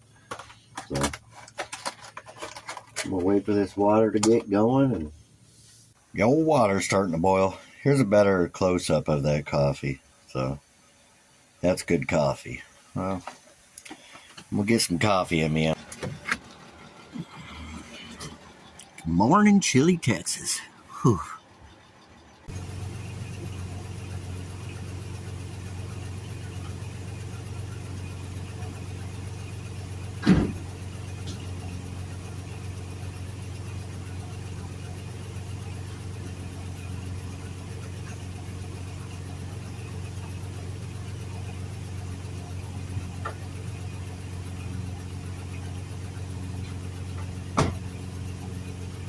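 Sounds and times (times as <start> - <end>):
truck engine hum: 0.0 - 49.0.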